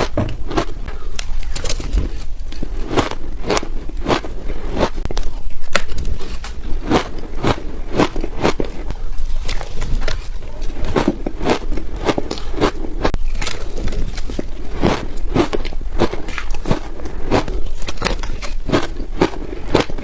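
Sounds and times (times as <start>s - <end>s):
ice cubes crunching while chewed: 0.0s - 20.0s.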